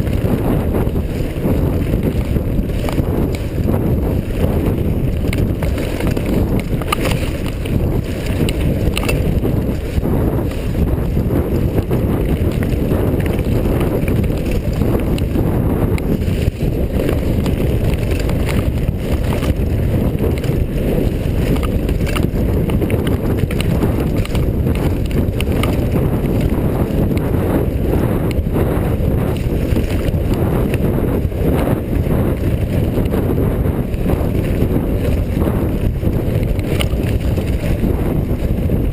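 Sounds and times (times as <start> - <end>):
bike knocks and rattles: 0.0 - 38.9
wind buffeting microphone: 0.0 - 38.9.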